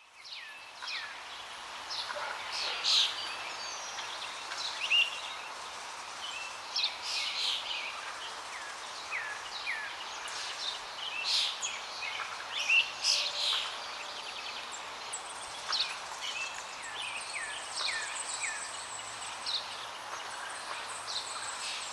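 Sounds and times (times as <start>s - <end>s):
steady hiss: 0.0s - 21.9s.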